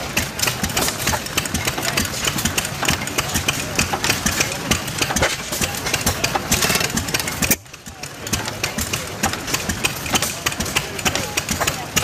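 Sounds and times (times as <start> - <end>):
stationary engines clattering: 0.0 - 12.0.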